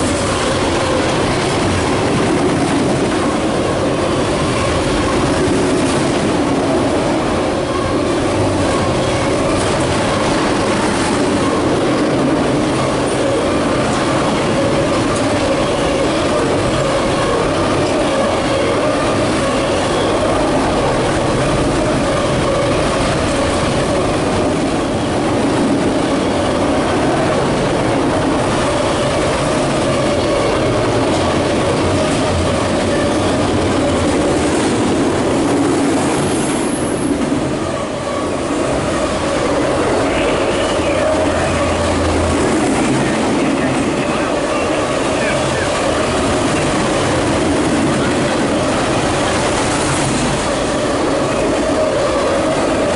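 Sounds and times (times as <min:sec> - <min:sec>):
train wheels rumbling on track: 0:00.0 - 0:52.9.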